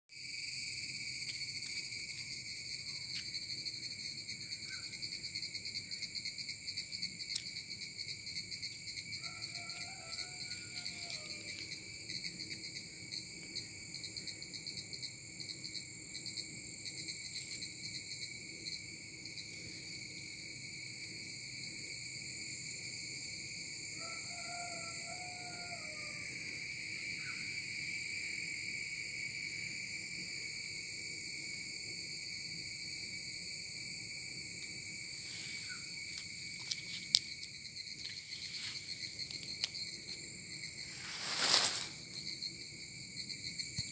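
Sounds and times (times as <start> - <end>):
insects trilling: 0.1 - 43.9.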